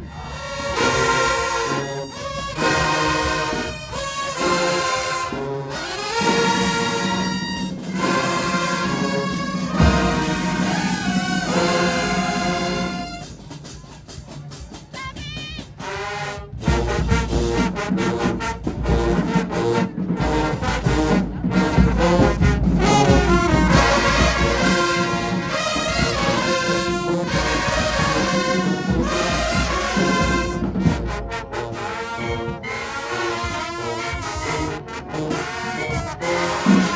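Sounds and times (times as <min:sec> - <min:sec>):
drums: 0:00.0 - 0:36.9
marching band playing: 0:00.0 - 0:36.9.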